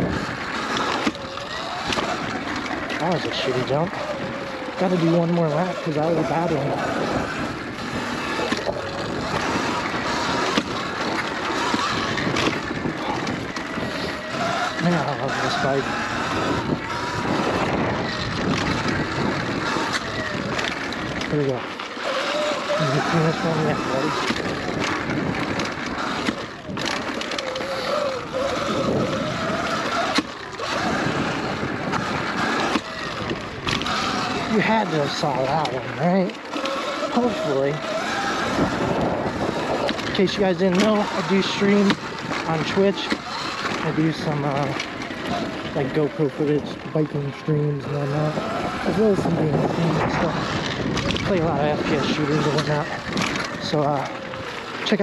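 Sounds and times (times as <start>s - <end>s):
electric dirt bike tyre and drivetrain: 0.0s - 55.0s
electric motor whine: 0.0s - 55.0s
wind rushing over microphone: 0.0s - 55.0s.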